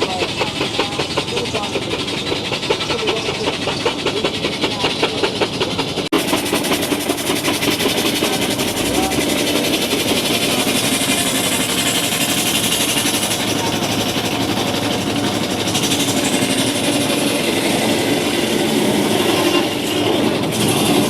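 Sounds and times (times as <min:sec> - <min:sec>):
steam hiss: 0:00.0 - 0:21.0
steam-driven saw bench running: 0:00.0 - 0:21.0.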